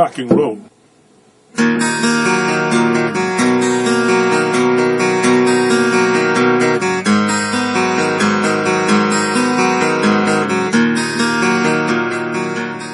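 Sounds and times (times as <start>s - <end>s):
acoustic guitars strummed: 1.5s - 12.9s.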